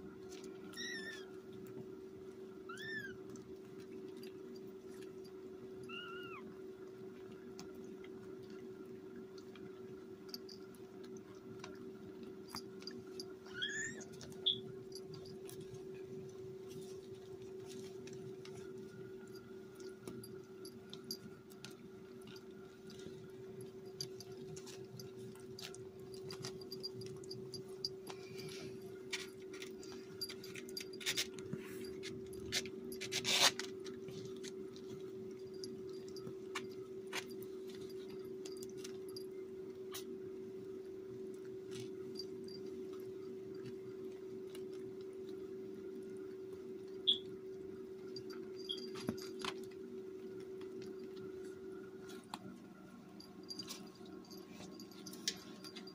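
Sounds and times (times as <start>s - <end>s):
kittens scratching and rustling: 0.0s - 8.7s, 9.5s - 40.5s, 41.1s - 55.9s
steady low hum: 0.0s - 55.9s.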